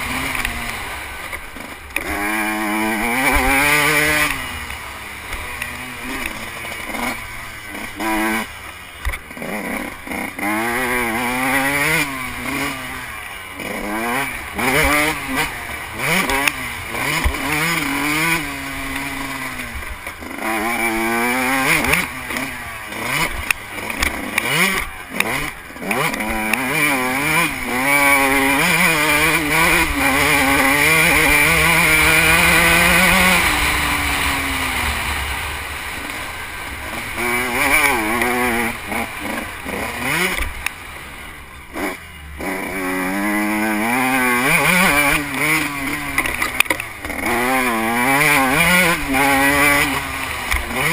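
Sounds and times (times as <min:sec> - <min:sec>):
motocross engine revving: 0:00.0 - 0:50.9.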